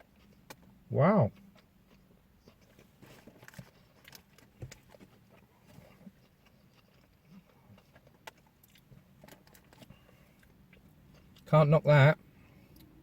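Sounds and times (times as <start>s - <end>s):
soft chewing: 0.0s - 11.5s, 12.2s - 13.0s.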